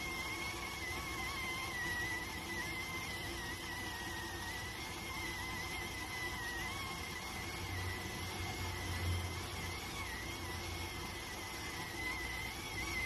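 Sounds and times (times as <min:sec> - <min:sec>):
rice cooker steam whistle: 0:00.0 - 0:13.0.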